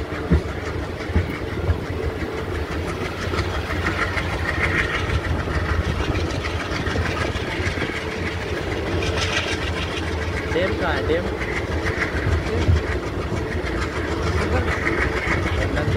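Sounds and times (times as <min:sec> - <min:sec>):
diesel engine drone and coach rumble: 0:00.0 - 0:15.9.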